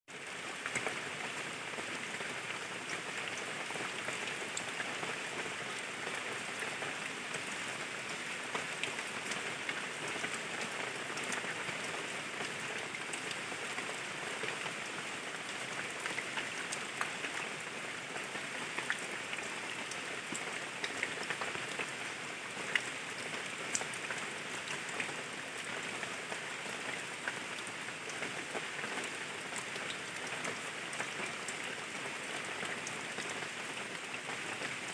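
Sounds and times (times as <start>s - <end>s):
rain falling on leaves: 0.1s - 34.9s.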